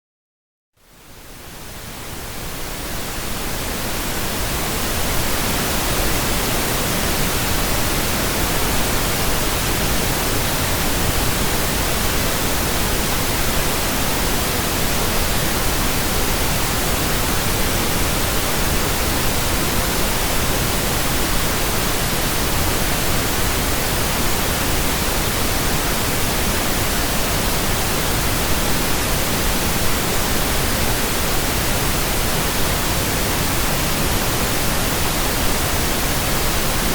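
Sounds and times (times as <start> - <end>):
static hiss: 0.8 - 36.9.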